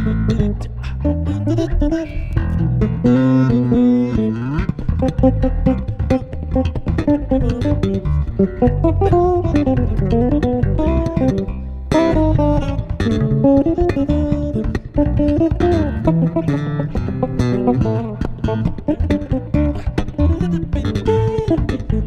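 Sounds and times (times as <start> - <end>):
low bass line: 0.0 - 22.0
plucked bass guitar melody: 0.0 - 22.0.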